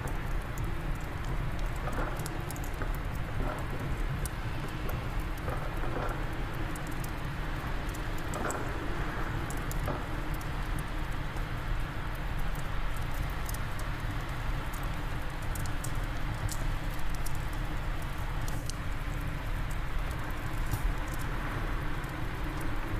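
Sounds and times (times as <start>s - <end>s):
low wind rumble: 0.0s - 22.9s
wood fire crackling: 0.0s - 22.9s.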